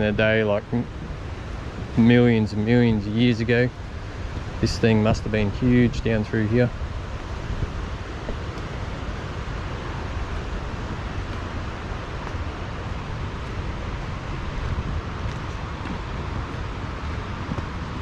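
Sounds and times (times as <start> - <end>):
creek rushing: 0.0 - 18.0.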